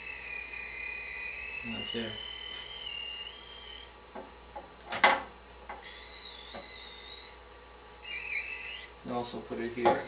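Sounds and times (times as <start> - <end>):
high-pitched electronic whine: 0.0 - 4.0, 5.7 - 9.8.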